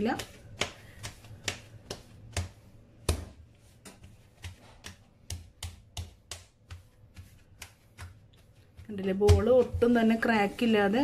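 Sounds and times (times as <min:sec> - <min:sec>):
dough slap on countertop: 0:00.0 - 0:10.7
hands patting dough: 0:00.0 - 0:11.0.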